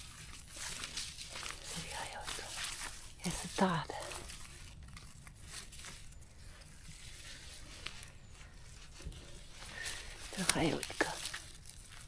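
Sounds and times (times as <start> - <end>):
leaf litter rustling: 0.0 - 12.0.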